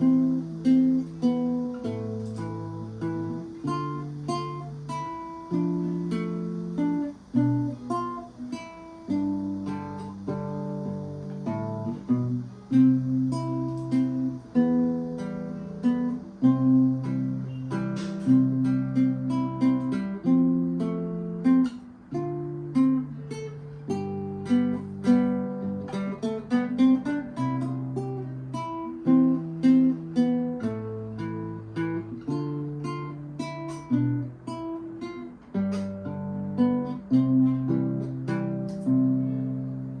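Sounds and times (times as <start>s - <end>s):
classical guitar melody: 0.0s - 40.0s.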